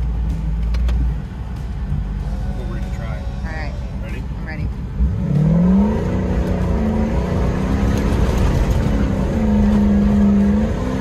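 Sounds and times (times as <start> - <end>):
off-road engine under load: 0.0 - 11.0
rumble and jolting: 0.0 - 11.0.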